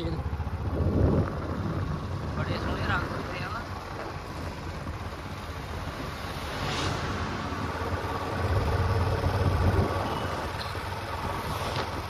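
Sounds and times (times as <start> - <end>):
noisy rush: 0.0 - 12.0
vehicle engine and road rumble: 0.0 - 12.0.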